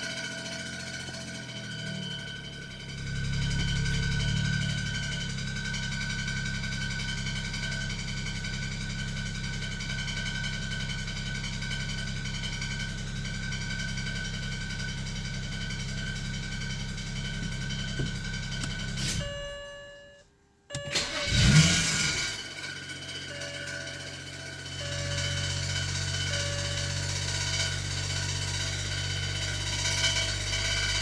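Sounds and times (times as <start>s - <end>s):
car engine idling: 0.0s - 31.0s
engine rattle: 0.0s - 31.0s.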